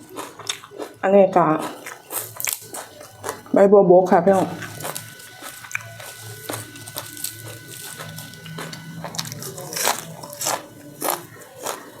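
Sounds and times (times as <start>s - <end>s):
chewing crisp raw leaves: 0.0s - 3.6s, 4.4s - 12.0s.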